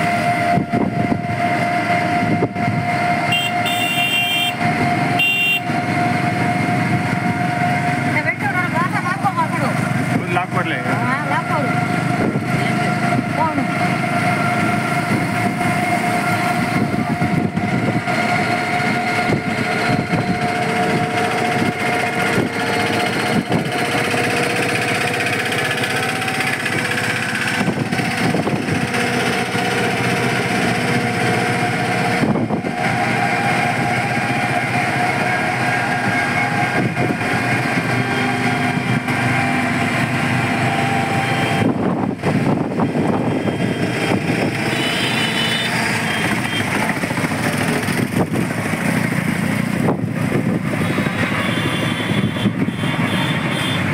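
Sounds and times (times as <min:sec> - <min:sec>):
motor and road noise: 0:00.0 - 0:53.9.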